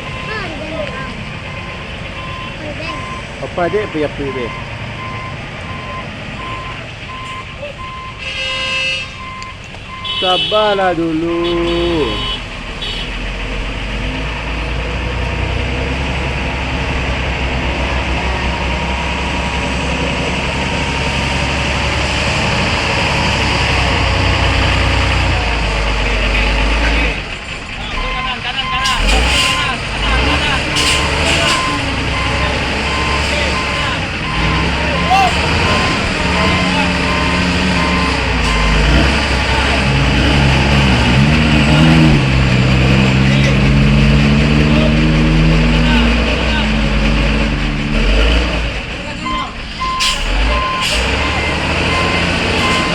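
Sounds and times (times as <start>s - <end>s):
reversing beeper: 0.0s - 10.3s, 18.0s - 52.9s
diesel truck engine rumble: 0.0s - 52.9s.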